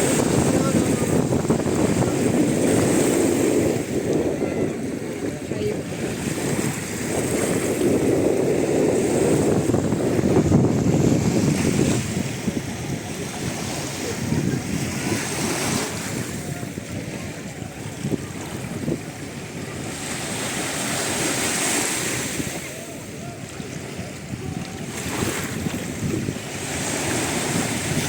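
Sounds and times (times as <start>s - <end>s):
surf washing: 0.0s - 28.0s
wind buffeting microphone: 0.0s - 28.0s.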